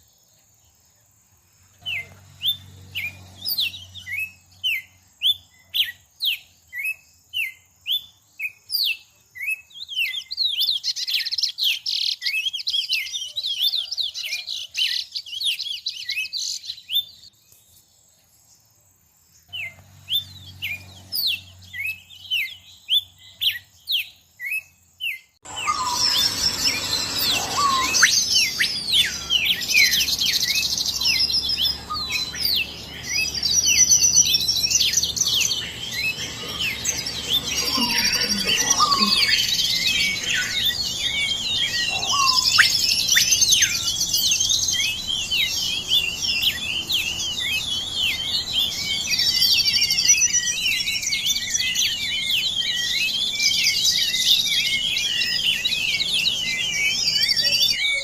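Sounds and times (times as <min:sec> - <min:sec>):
chorus of small birds chirping: 0:00.0 - 0:58.0.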